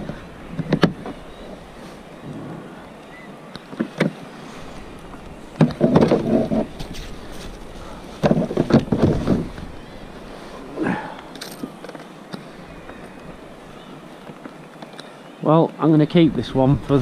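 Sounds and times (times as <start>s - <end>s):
background noise on water: 0.0s - 17.0s.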